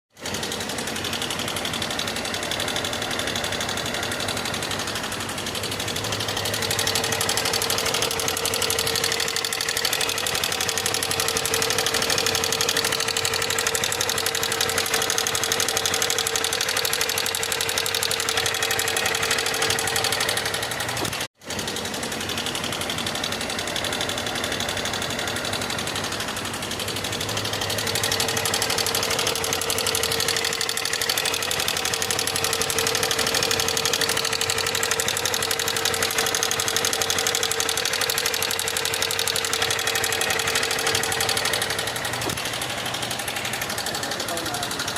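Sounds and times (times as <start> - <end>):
motorcycle engine clatter: 0.2 - 44.9.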